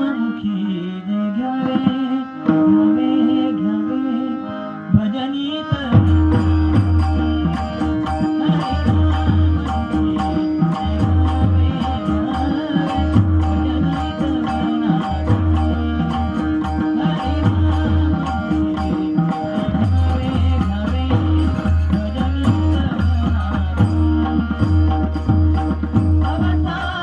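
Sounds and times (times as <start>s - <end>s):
dholki drum rhythm: 1.5s - 27.0s.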